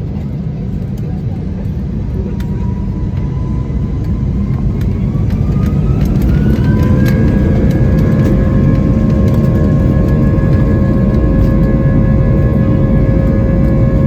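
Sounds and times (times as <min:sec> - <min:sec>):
jet engines spooling up: 0:01.6 - 0:14.0.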